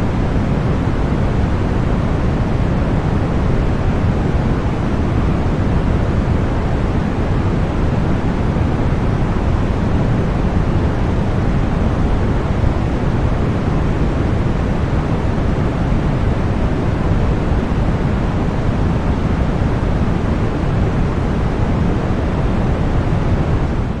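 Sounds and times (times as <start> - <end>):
deep white noise hiss: 0.0 - 24.0.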